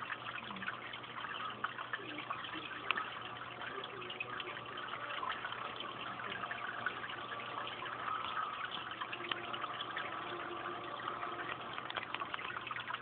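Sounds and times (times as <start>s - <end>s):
running water: 0.0s - 13.0s
small crackles: 0.0s - 13.0s.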